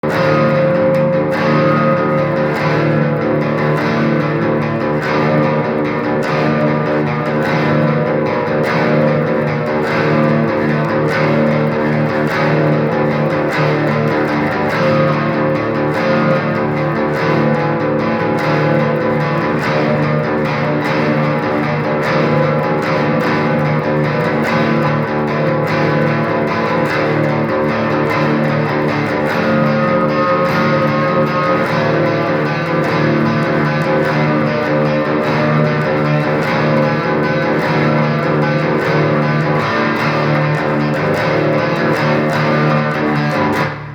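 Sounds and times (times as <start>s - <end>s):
instrumental guitar music: 0.0s - 43.9s.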